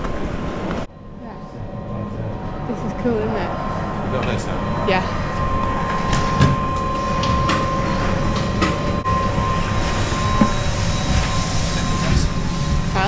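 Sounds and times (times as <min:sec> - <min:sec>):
train equipment hum and whine: 0:00.0 - 0:13.0.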